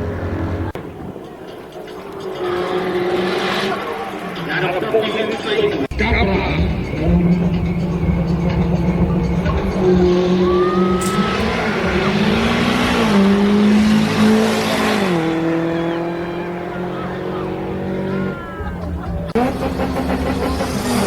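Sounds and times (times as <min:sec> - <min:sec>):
sports car engines revving: 0:00.0 - 0:21.0.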